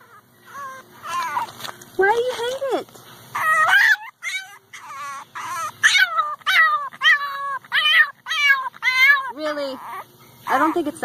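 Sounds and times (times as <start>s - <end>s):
puppy whimpering and yipping: 0.0s - 11.0s.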